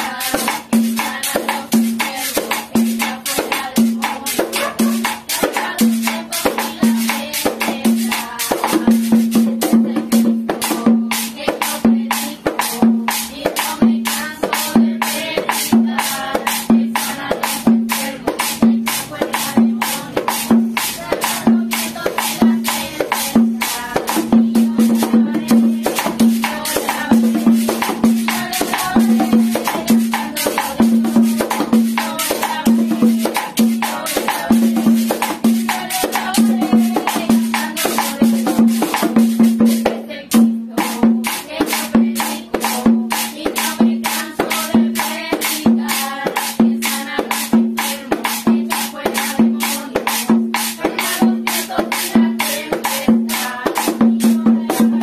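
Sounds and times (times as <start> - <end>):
group singing gospel chorus: 0.0 - 55.0
hand drum steady beat: 0.0 - 55.0.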